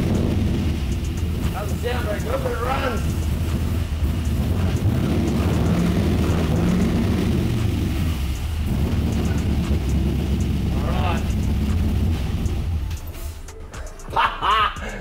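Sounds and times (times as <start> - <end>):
engine running with low rumble: 0.0 - 14.0.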